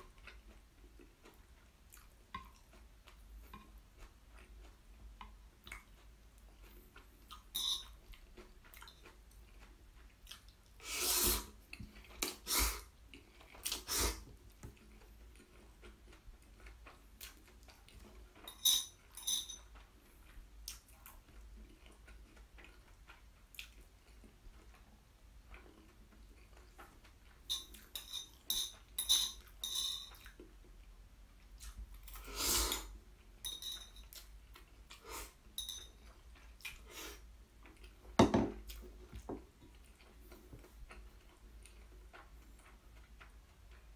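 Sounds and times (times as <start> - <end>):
chewing: 0.0 - 43.9.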